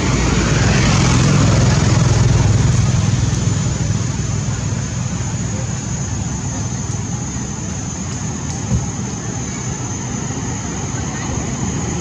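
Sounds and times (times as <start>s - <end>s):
high-pitched whine: 0.0s - 12.0s
low fluctuating rumble: 0.0s - 12.0s.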